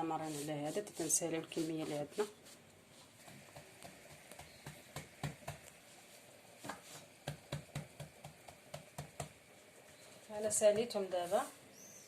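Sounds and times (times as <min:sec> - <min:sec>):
hands patting dough: 0:00.0 - 0:09.7, 0:10.4 - 0:11.5.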